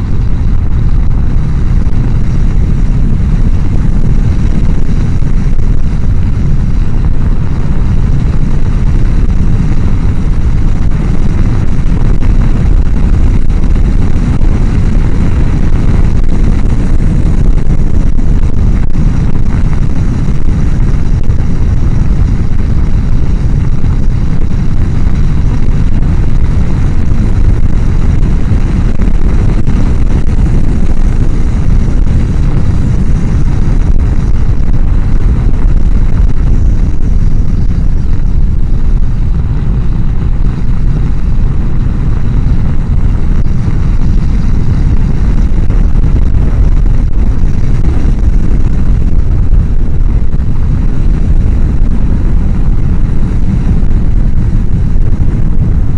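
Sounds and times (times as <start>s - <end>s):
wind roar on helmet microphone: 0.0s - 55.9s.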